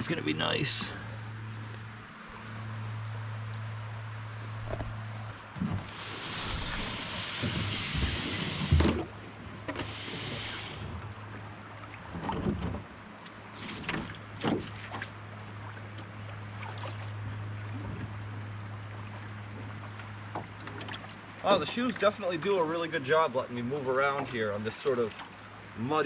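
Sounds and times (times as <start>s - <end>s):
person wading through shallow water: 0.9s - 25.8s.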